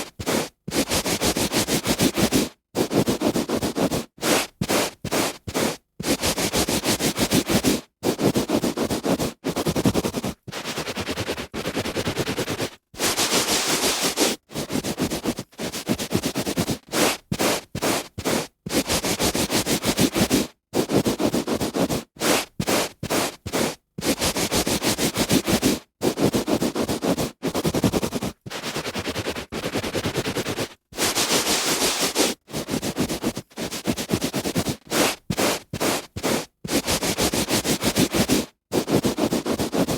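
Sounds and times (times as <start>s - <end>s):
hand rubbing on carpet: 0.0s - 39.9s.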